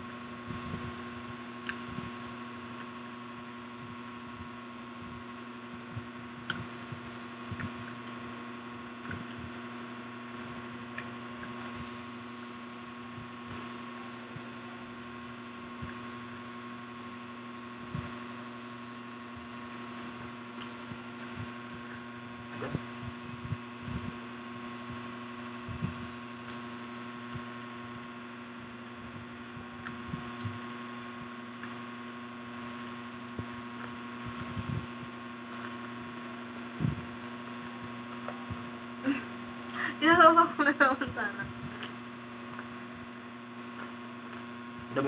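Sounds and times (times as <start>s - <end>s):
steady electrical hum: 0.0s - 45.0s
people chewing food: 0.5s - 40.0s, 41.4s - 45.0s.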